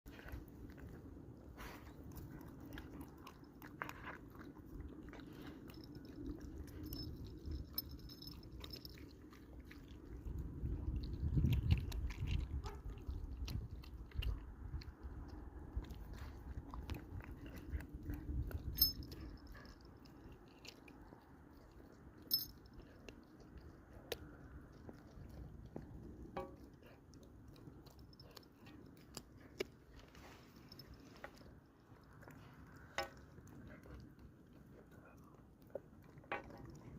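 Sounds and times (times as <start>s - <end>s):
puppy chewing and biting: 0.1s - 36.9s.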